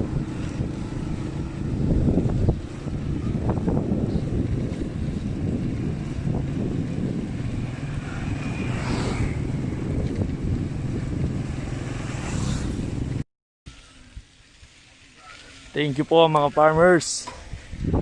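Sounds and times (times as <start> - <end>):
wind buffeting microphone: 0.0 - 13.2, 16.8 - 18.0.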